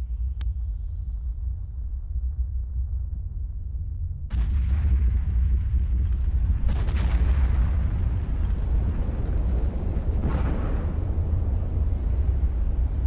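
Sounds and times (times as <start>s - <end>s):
deep volcanic rumble: 0.6s - 13.0s.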